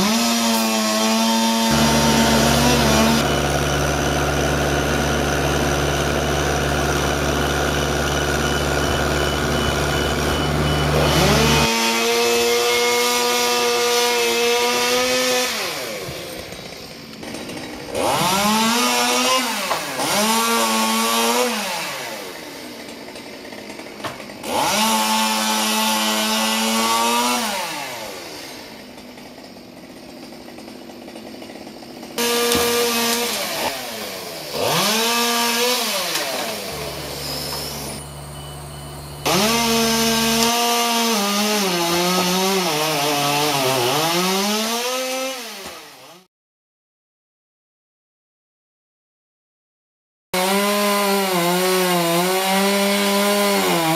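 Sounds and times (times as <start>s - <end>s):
chainsaw cutting branches: 0.0s - 46.3s, 50.4s - 53.9s.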